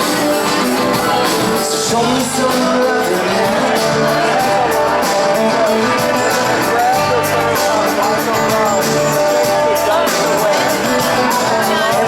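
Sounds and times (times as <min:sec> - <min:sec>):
live rock band playing: 0:00.0 - 0:12.0
person singing: 0:00.0 - 0:12.0.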